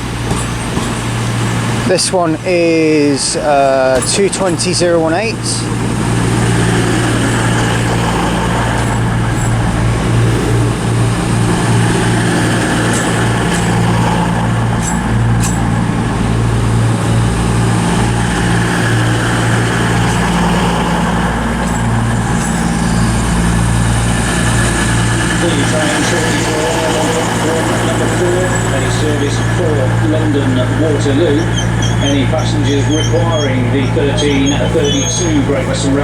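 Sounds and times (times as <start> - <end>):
low diesel engine drone: 0.0 - 36.0.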